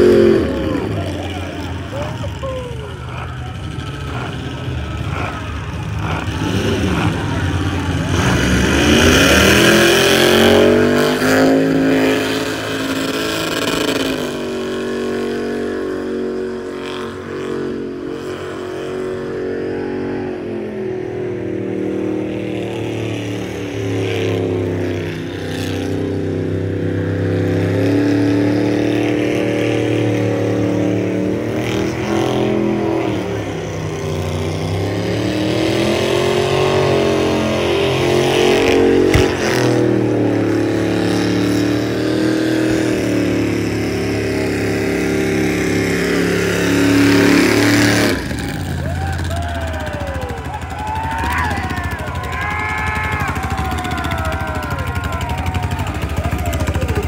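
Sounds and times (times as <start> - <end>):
truck engine revving high: 0.0 - 57.0.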